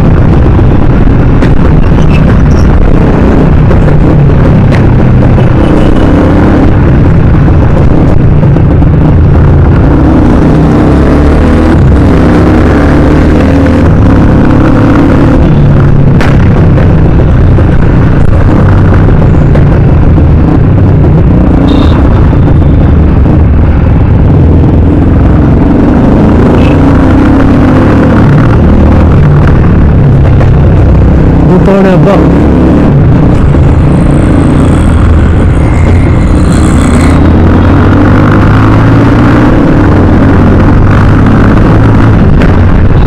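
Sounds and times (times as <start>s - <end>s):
single-cylinder motorcycle exhaust: 0.0s - 31.5s, 32.6s - 43.0s
motorcycle engines in traffic: 0.0s - 43.0s.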